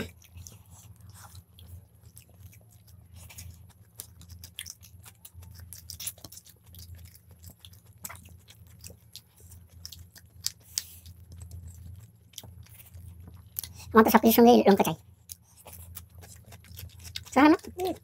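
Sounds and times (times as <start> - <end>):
people chewing with mouth clicks: 0.0 - 18.0
steady low hum: 0.0 - 18.0.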